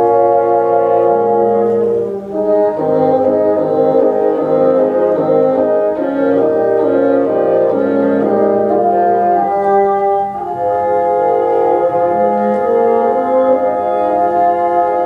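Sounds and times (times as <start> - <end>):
bassoon ensemble playing chords: 0.0 - 15.0.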